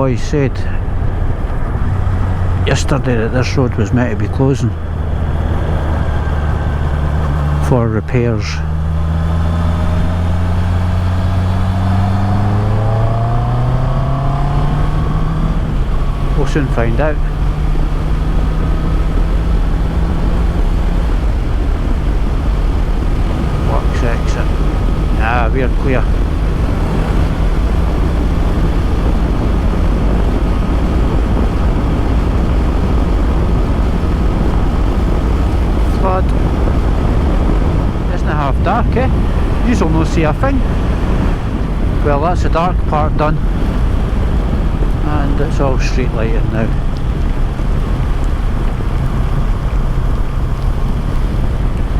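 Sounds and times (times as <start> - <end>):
wind and road noise: 0.0 - 51.9
motorcycle engine running: 0.8 - 51.9.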